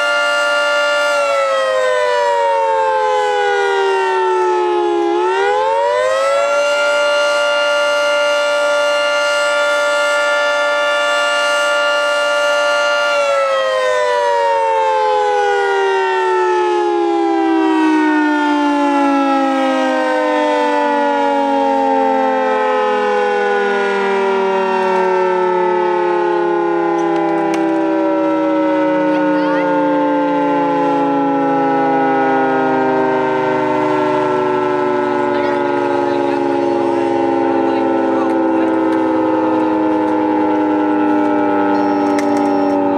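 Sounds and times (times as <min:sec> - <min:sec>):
warning siren: 0:00.0 - 0:42.9.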